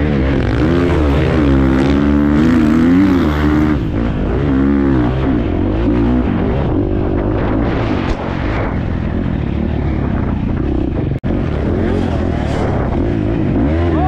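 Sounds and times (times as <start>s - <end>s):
motorcycle engine revving: 0.0s - 14.0s
wind rushing: 2.3s - 13.8s.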